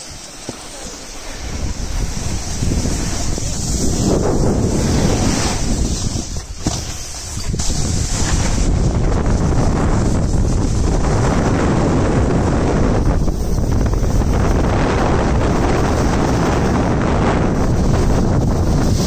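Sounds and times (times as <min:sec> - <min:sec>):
skis hissing over packed snow: 0:00.0 - 0:19.0
wind buffeting microphone: 0:00.8 - 0:19.0.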